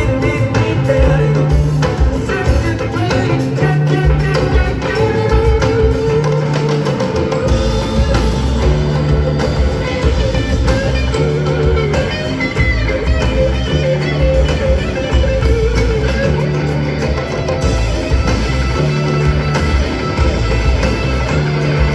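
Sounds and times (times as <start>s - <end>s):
bass: 0.0s - 21.9s
drums beat: 0.0s - 21.9s
guitar: 0.0s - 21.9s.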